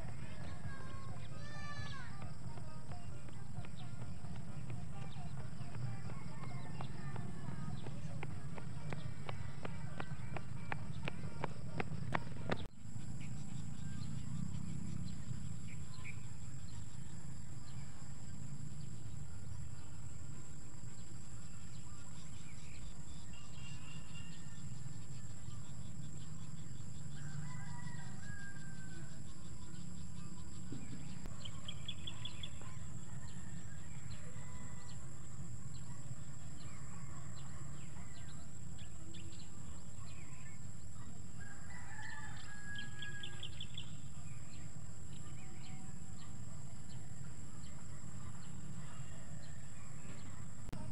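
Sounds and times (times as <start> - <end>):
bird calls: 3.0 - 50.9.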